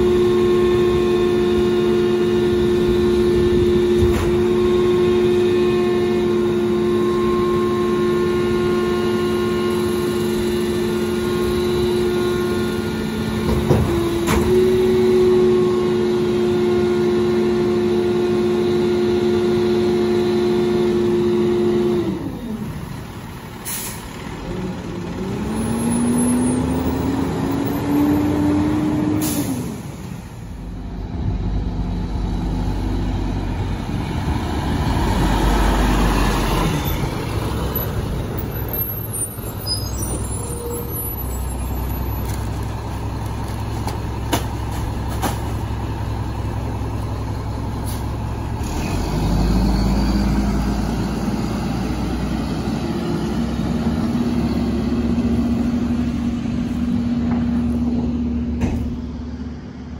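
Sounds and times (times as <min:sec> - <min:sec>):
diesel engine revving: 0:00.0 - 0:59.9
low rumble of rear loader: 0:00.0 - 0:59.9.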